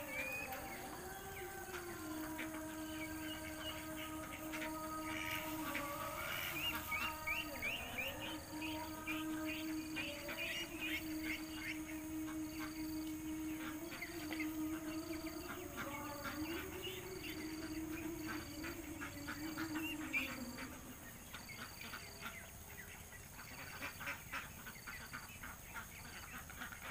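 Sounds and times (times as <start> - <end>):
ducks quacking: 0.0 - 26.9
low steady hum: 0.0 - 26.9.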